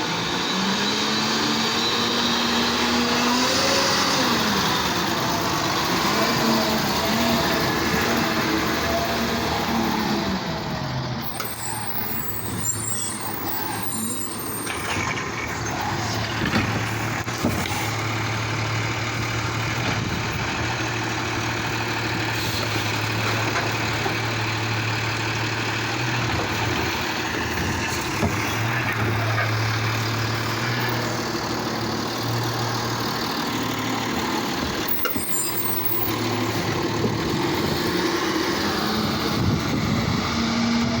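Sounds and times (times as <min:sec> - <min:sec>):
garbage truck engine drone: 0:00.0 - 0:41.0.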